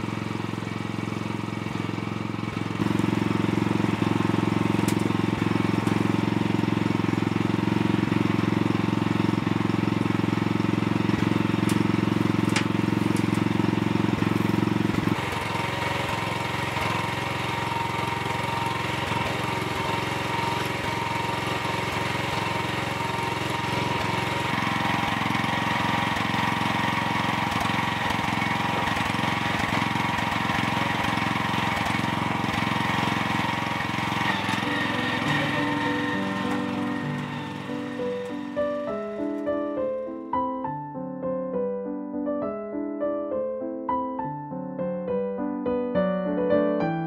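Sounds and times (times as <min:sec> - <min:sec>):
small truck engine running: 0:00.0 - 0:40.0.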